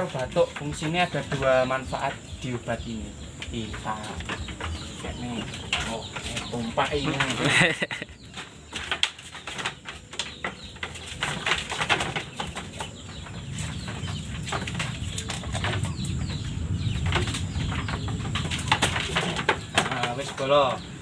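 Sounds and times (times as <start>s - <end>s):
clicks and knocks from handling sheep: 0.0s - 21.0s
small birds chirping: 0.0s - 21.0s.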